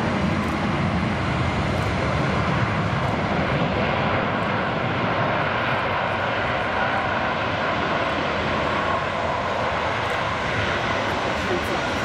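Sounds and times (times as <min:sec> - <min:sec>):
jet airliner engines: 0:00.0 - 0:12.0.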